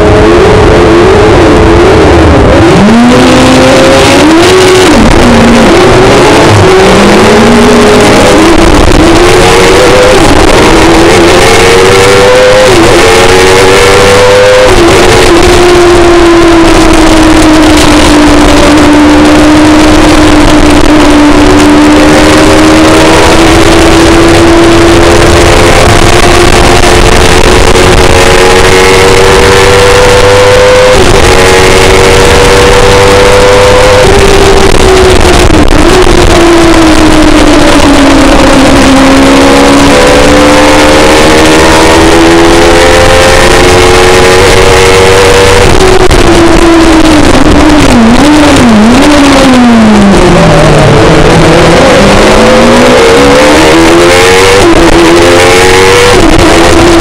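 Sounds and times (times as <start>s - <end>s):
motorcycle engine at full throttle: 0.0s - 57.0s.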